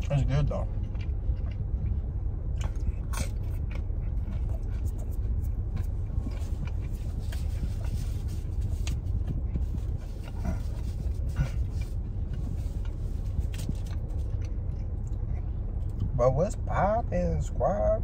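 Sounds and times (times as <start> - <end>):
chewing crisp pizza crust: 0.0 - 16.7
steady low rumble: 0.0 - 18.0.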